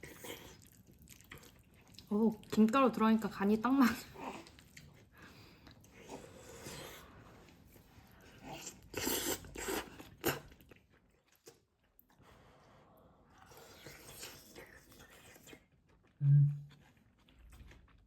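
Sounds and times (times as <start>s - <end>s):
person chewing and crunching: 0.0s - 2.6s, 4.2s - 12.1s, 13.4s - 18.0s.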